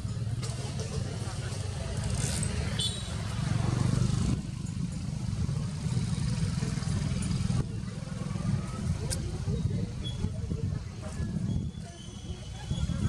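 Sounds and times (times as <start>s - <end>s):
motor vehicle engine rumble: 0.0s - 13.0s.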